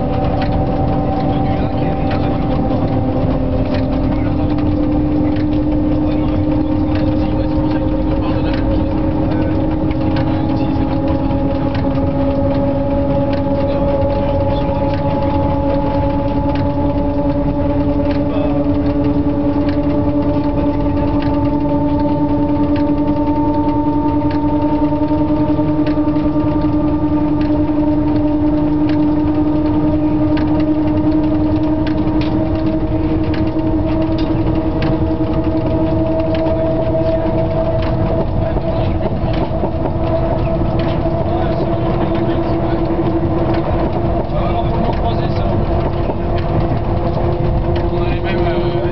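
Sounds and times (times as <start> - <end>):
traction motor hum and whine: 0.0 - 48.9.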